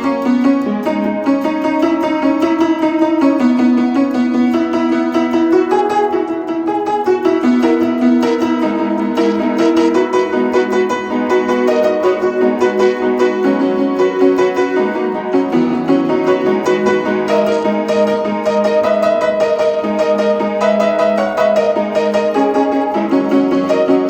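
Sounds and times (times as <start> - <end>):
piano background music: 0.0 - 24.0.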